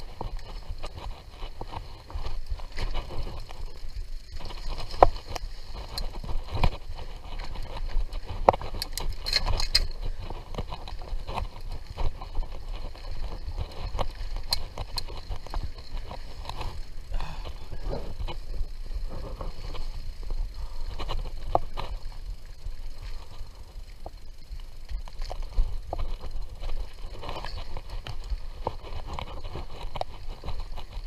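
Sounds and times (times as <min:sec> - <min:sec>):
bike clicking and rattling: 0:00.0 - 0:31.0
bike tyres rumbling on dirt: 0:00.0 - 0:31.0.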